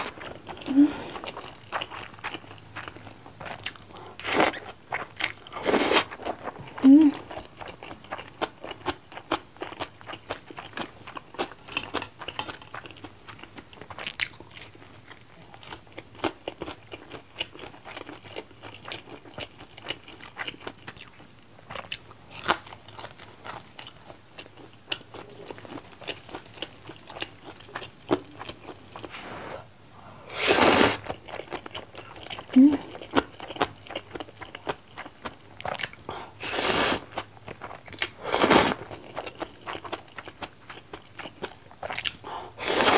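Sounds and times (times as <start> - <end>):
chewing noodles: 0.0 - 29.1, 30.4 - 42.9.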